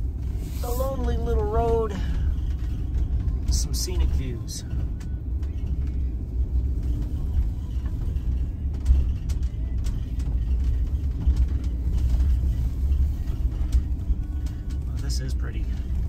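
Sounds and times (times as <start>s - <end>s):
van engine and tyres rumbling: 0.0s - 16.0s
ticks and rattles: 1.2s - 16.0s.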